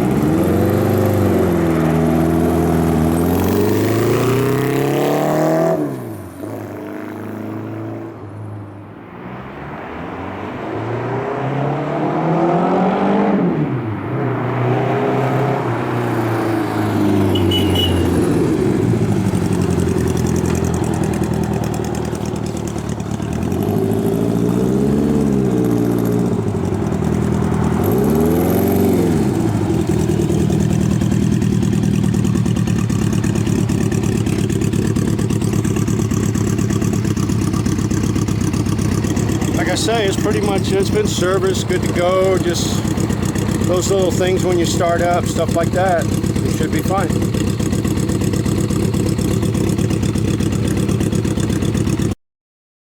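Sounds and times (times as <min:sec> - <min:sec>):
motorcycle engine revving: 0:00.0 - 0:08.2, 0:10.4 - 0:52.2.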